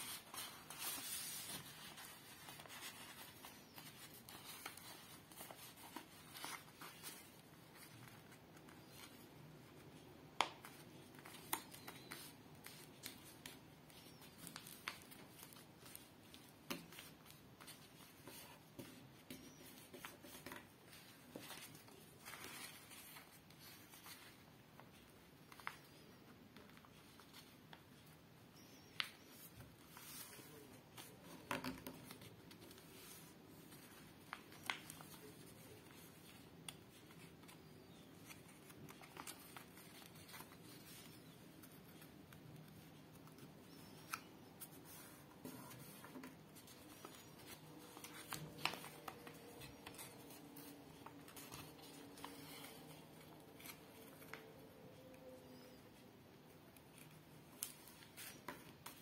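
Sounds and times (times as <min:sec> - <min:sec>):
paper being folded: 0:00.0 - 0:28.2, 0:28.8 - 0:55.7.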